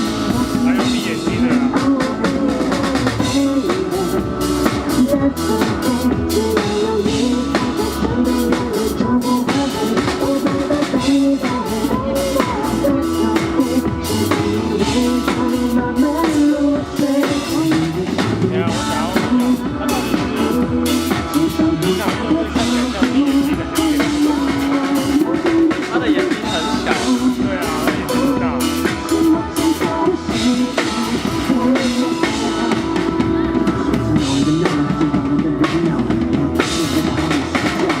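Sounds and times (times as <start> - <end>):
drum kit beat: 0.0 - 38.0
live band playing pop song: 0.0 - 38.0.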